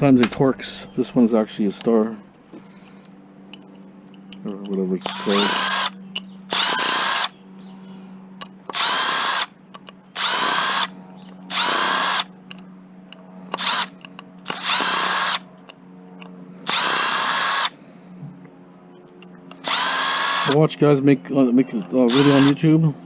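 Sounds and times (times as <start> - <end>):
power driver motor whine: 0.0 - 23.0.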